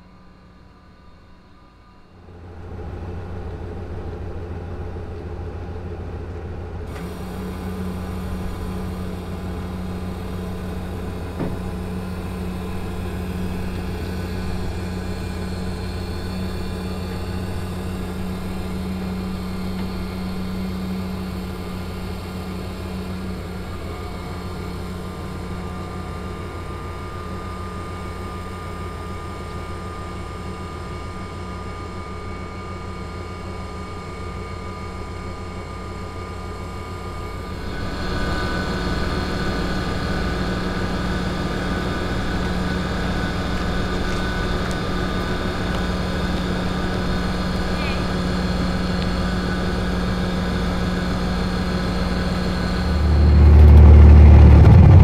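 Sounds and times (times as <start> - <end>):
steady engine drone: 0.0 - 55.0.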